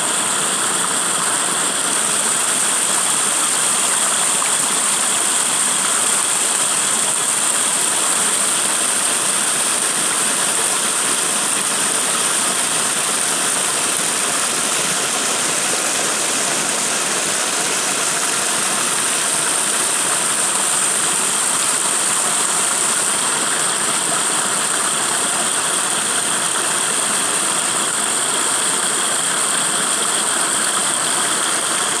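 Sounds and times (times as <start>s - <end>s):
water rushing over rocks: 0.0s - 32.0s.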